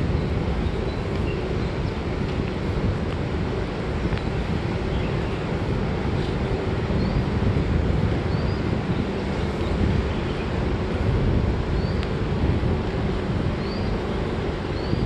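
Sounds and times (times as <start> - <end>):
road traffic: 0.0 - 15.0
wind on microphone: 0.0 - 15.0.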